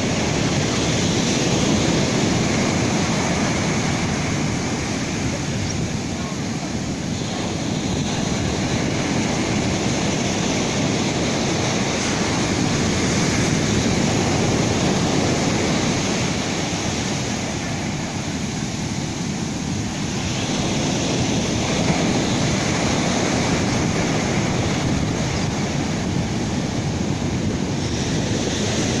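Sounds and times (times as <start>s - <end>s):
ocean waves crashing: 0.0s - 29.0s.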